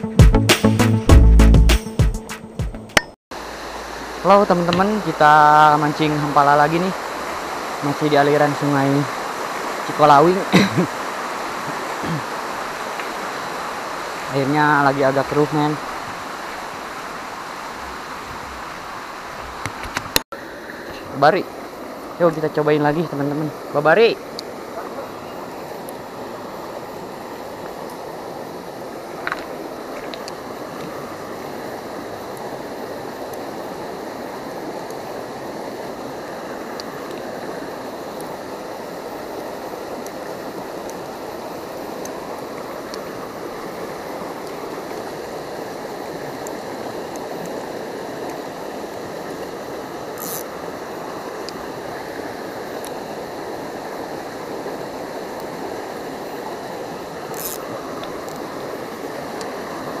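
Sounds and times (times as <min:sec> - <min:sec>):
stream rushing over rocks: 0:03.3 - 1:00.0.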